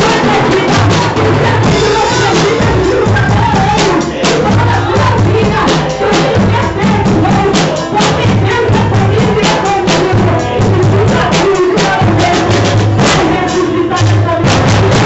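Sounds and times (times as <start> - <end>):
fast drum-kit beat: 0.0 - 15.0
held bass notes: 0.0 - 15.0.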